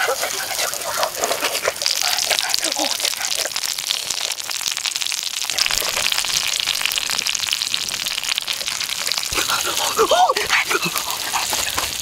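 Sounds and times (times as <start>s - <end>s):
prawns sizzling on hot stone: 0.0s - 12.0s.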